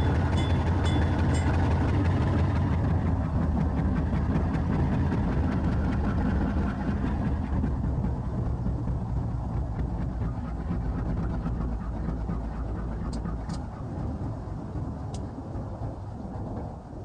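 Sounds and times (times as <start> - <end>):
diesel locomotive engine idling: 0.0 - 16.8.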